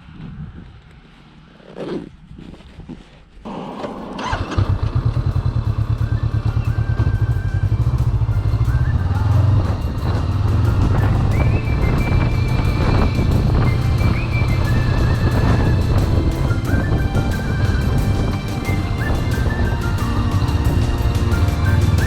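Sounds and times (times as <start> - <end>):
motorcycle engine running: 3.9 - 22.0.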